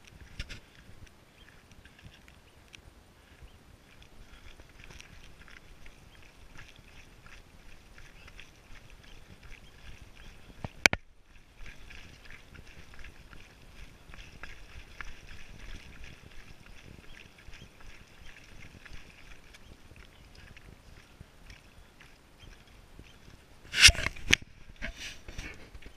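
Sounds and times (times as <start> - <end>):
footsteps crunching on rocky path: 0.0 - 25.9.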